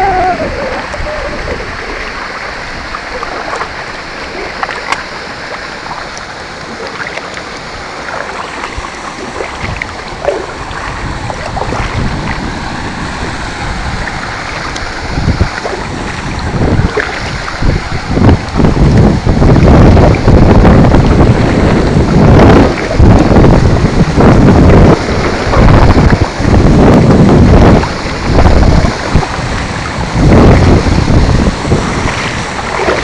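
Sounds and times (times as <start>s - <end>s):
paddle splashes: 0.0s - 33.0s
water lapping around kayak hull: 0.0s - 33.0s
wind buffeting microphone: 0.0s - 33.0s.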